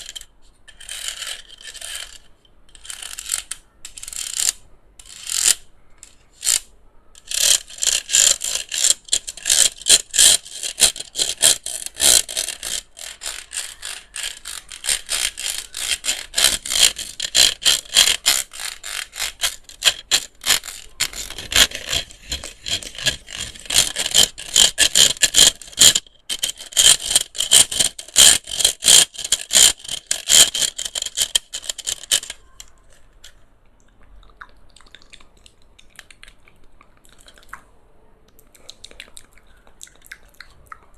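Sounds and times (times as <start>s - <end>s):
clicking and scratching on a fan: 0.0s - 33.4s.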